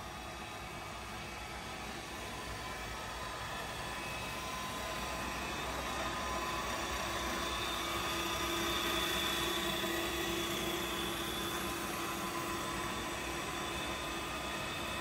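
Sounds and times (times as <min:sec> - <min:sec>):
lathe motor humming: 0:00.2 - 0:15.0.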